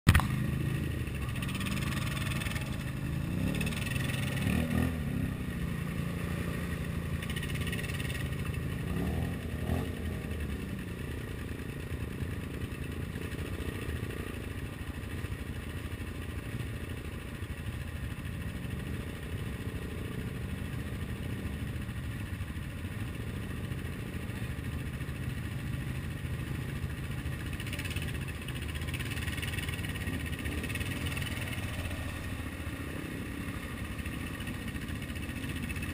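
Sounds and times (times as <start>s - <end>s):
atv engine revving: 0.1s - 35.9s.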